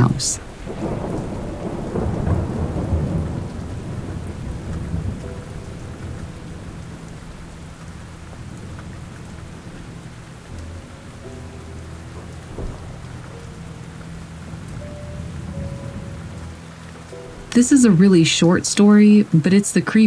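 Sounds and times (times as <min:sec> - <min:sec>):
thunder crack: 0:00.0 - 0:18.7
steady rain: 0:00.0 - 0:20.0
thunder rumbling: 0:00.0 - 0:20.0.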